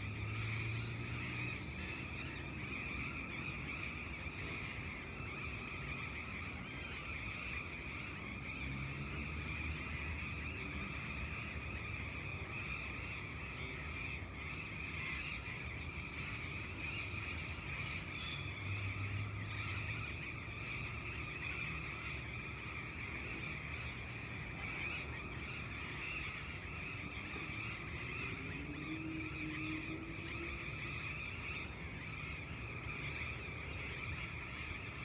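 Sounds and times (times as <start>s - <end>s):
birds chirping: 0.0s - 35.0s
distant traffic rumble: 0.0s - 35.0s.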